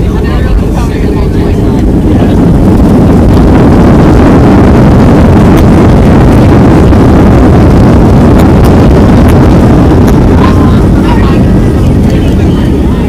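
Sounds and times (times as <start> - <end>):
airplane engines rumbling in cabin: 0.0 - 13.0.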